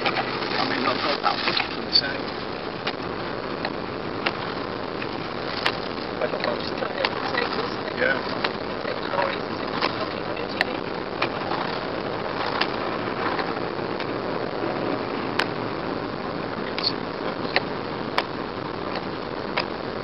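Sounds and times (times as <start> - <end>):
tyre and road noise: 0.0 - 20.0.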